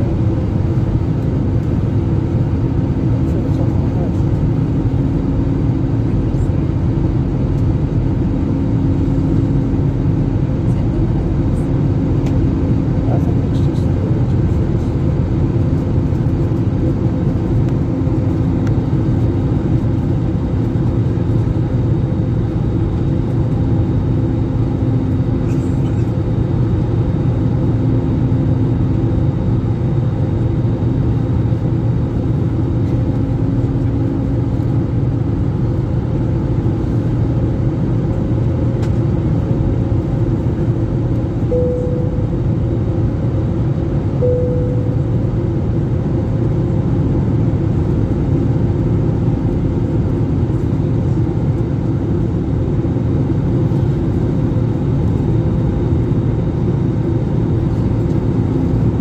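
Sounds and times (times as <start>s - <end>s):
airliner cabin engine rumble: 0.0s - 59.0s
faint hum tones: 0.0s - 59.0s.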